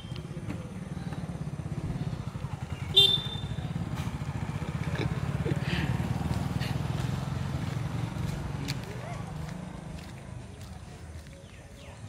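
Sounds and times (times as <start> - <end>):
faint voices: 0.0 - 2.8, 3.4 - 12.0
motorcycle engine running: 0.0 - 11.9.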